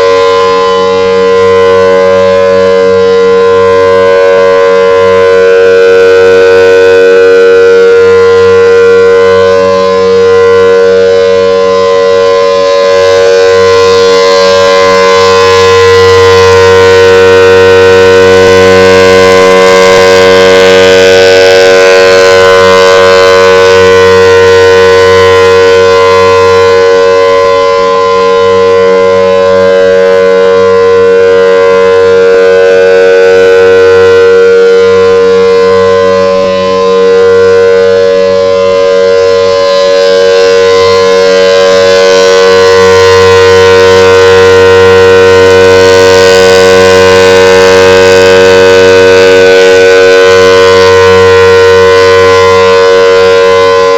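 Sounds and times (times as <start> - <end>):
outdoor warning siren steady tone: 0.0 - 53.9.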